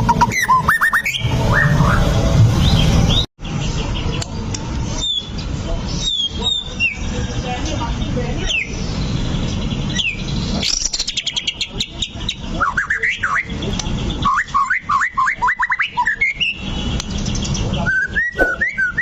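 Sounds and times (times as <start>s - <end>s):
bird singing trills and whistles: 0.0s - 7.2s, 8.4s - 19.0s.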